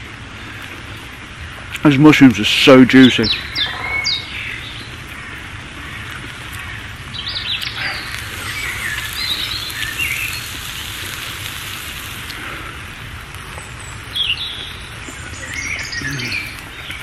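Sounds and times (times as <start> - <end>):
steady hiss: 0.0 - 17.0
small birds chirping: 0.4 - 17.0.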